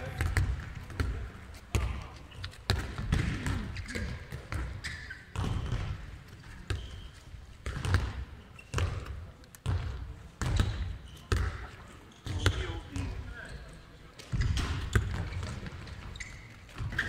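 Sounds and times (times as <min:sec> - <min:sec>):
balls bouncing on hall floor: 0:00.0 - 0:17.0.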